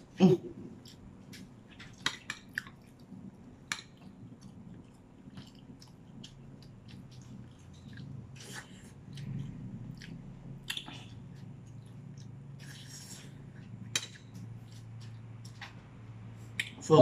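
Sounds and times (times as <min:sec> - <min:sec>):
close chewing of food: 0:00.5 - 0:16.6.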